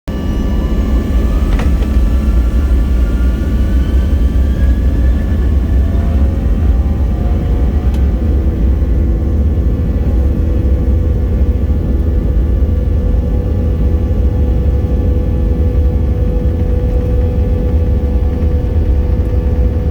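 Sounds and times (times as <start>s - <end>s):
airplane engines at takeoff: 0.1s - 19.9s.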